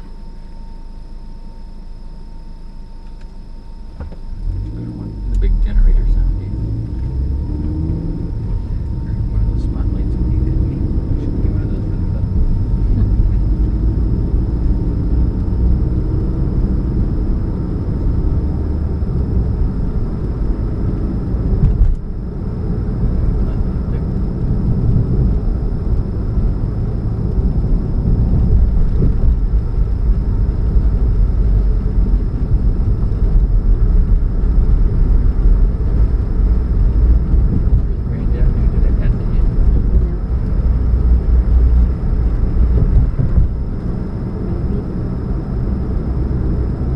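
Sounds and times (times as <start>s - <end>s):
car engine humming: 0.0s - 46.9s.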